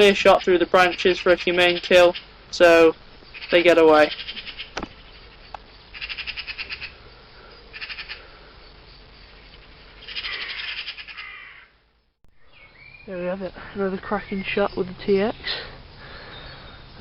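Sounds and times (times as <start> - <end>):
magpies and crows alarm-calling: 0.0 - 11.8, 12.4 - 17.0.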